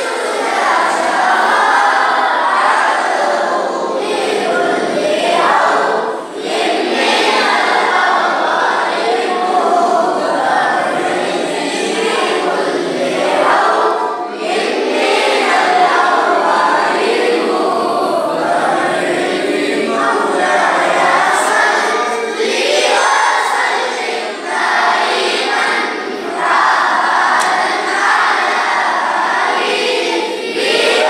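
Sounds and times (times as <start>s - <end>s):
boys chanting in unison: 0.0s - 31.0s.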